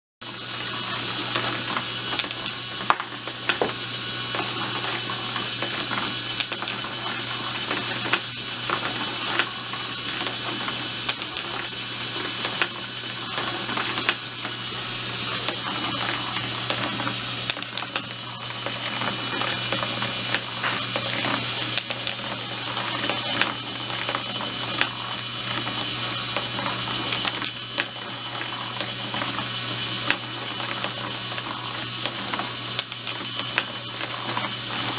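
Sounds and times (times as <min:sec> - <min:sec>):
motor hum: 0:00.2 - 0:34.9
marbles clicking on track: 0:00.3 - 0:34.9.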